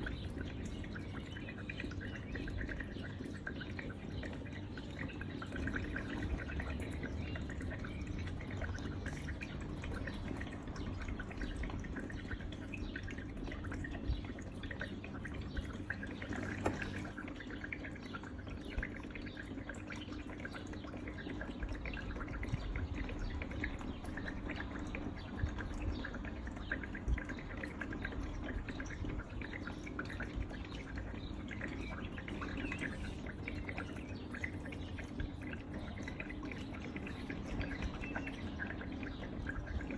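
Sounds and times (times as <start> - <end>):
fountain water trickling: 0.0 - 39.9
low pump hum: 0.0 - 39.9.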